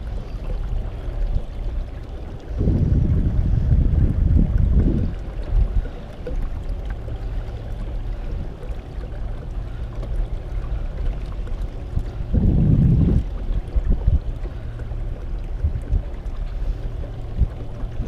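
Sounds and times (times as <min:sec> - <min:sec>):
water gurgling along hull: 0:00.0 - 0:18.0.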